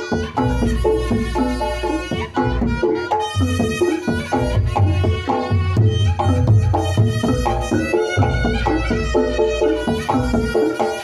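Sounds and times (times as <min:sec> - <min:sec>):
hand drums beating: 0:00.0 - 0:11.0
shawm playing a melody: 0:00.0 - 0:11.0.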